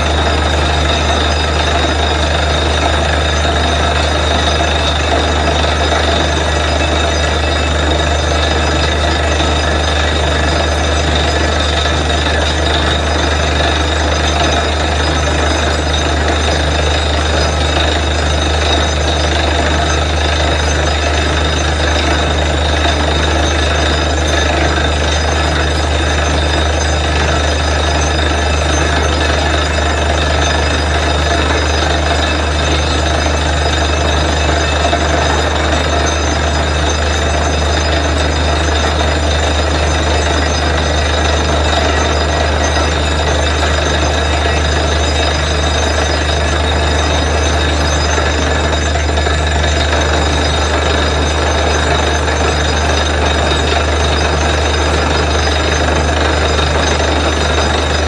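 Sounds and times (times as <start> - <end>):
air compressor whine: 0.0 - 58.0
drilling rig engine running: 0.0 - 58.0.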